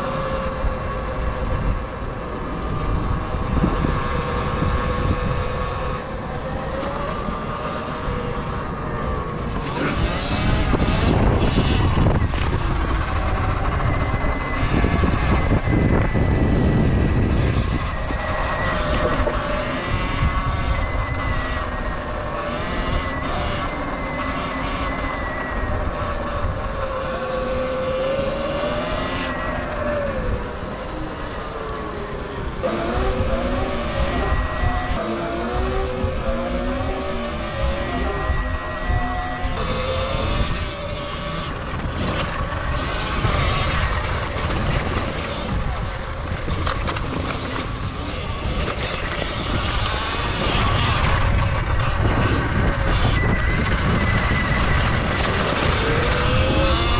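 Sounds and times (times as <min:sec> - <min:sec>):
electric motor whine: 0:00.0 - 0:56.9
wind rumble on microphone: 0:00.0 - 0:56.9.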